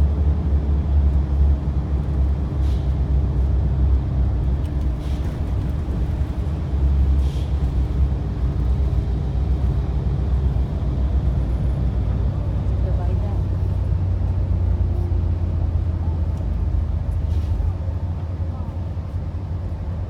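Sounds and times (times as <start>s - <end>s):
coach engine and road rumble: 0.0s - 20.0s.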